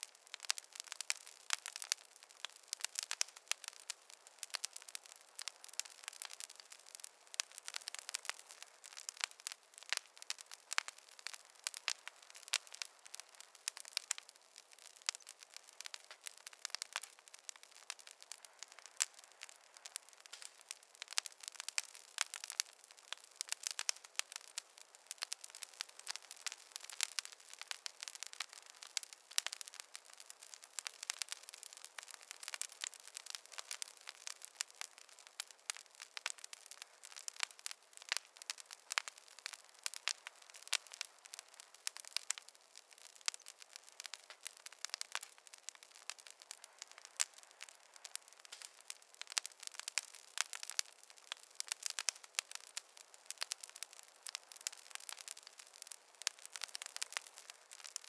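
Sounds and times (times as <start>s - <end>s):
faint hiss: 0.0s - 58.0s
wood fire crackling: 0.0s - 58.0s.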